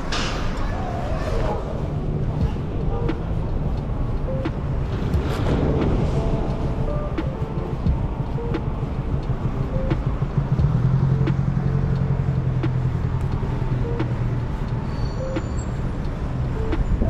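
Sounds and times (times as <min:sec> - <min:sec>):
city street traffic: 0:00.0 - 0:17.0
vehicle engine rumbling nearby: 0:00.0 - 0:17.0.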